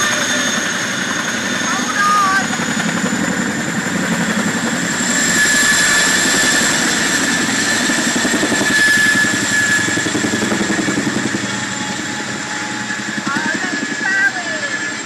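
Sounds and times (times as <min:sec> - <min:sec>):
helicopter rotors chopping: 0:00.0 - 0:15.0
helicopter turbine whine: 0:00.0 - 0:15.0.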